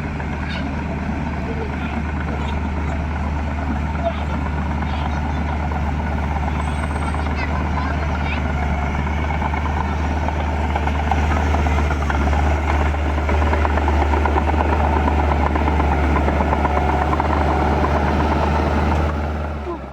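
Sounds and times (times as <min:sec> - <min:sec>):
heavy diesel machinery engine: 0:00.0 - 0:19.9.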